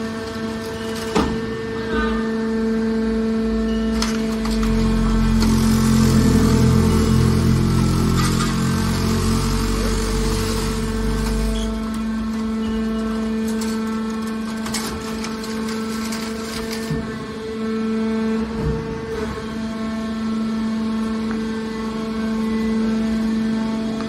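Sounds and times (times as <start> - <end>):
hydraulic power unit humming: 0.0 - 24.0.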